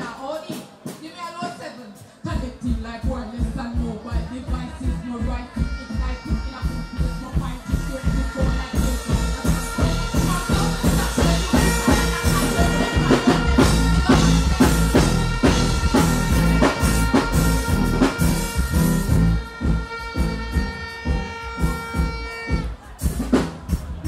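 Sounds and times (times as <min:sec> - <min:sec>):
loud music over sound system: 0:00.0 - 0:24.0
drum beat: 0:02.2 - 0:24.0
heavy bass: 0:02.3 - 0:24.0.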